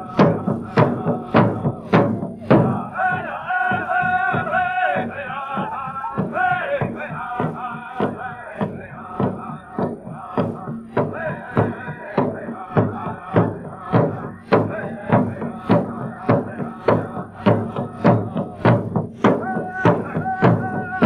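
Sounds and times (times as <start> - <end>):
large hand drum beat: 0.0 - 21.0.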